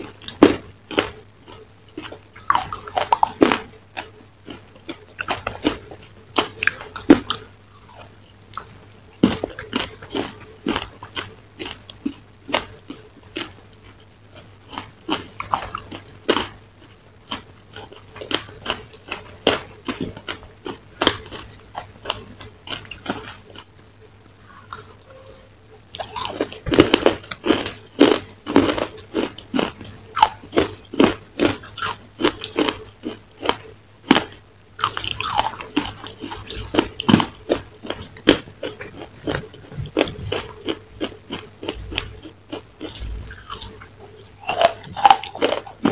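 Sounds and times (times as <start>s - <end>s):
crunchy food chewing: 0.0s - 45.9s.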